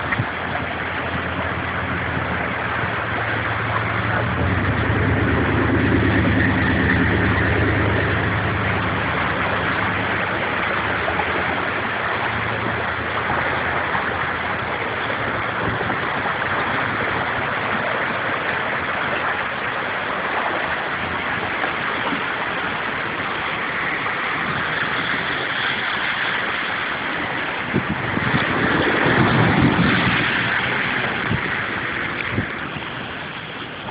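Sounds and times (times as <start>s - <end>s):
fast-flowing creek water: 0.0s - 33.9s
low hum: 0.0s - 33.9s.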